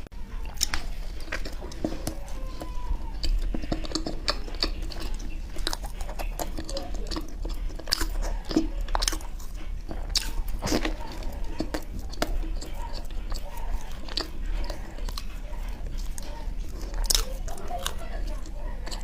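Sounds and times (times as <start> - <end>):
wet chewing mouth clicks: 0.4 - 19.0.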